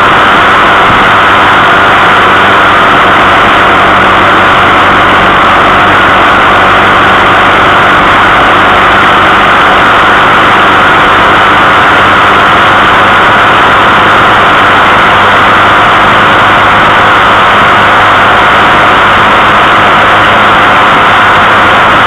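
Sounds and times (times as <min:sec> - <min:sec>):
vehicle engine drone: 0:00.0 - 0:22.0.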